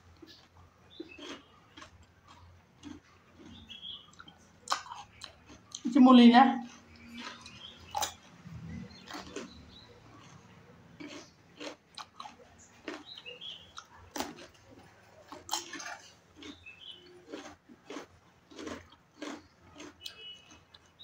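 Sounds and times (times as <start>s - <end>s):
person biting and chewing: 0.2s - 5.8s, 6.7s - 21.0s.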